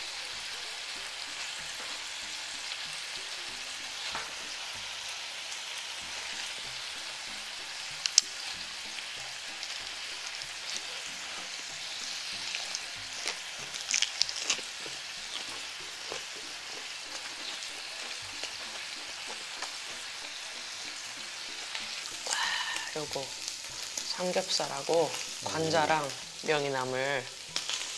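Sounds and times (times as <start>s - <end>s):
pork sizzling on a griddle: 0.0s - 27.9s.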